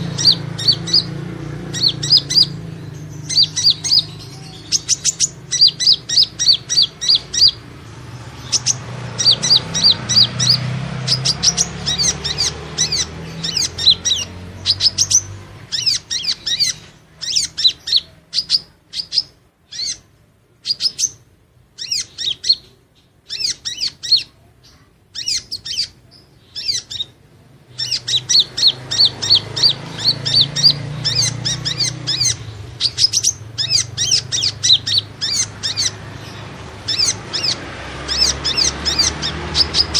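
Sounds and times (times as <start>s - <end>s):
high thin bird chirps: 0.0s - 39.9s.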